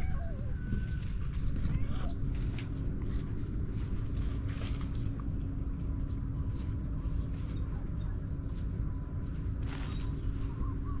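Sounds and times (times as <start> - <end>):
high-pitched insect drone: 0.0 - 11.0
low rumble: 0.0 - 11.0.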